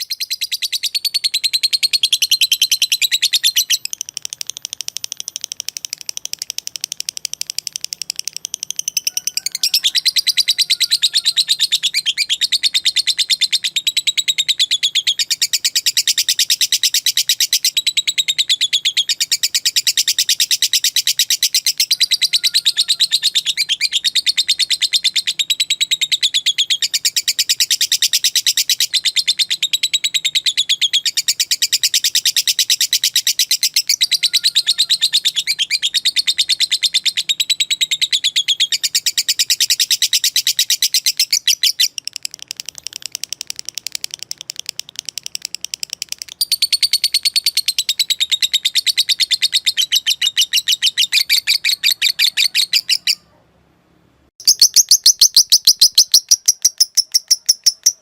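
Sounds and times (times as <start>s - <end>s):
lovebird chattering: 0.0s - 53.3s, 54.4s - 58.0s.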